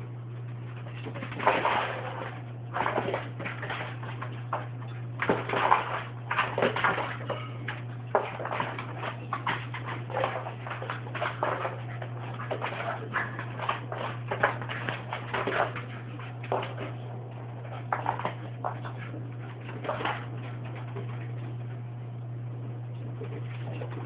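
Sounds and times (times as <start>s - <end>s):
steady low hum: 0.0s - 24.0s
dog claws scrabbling on floor: 0.7s - 21.6s.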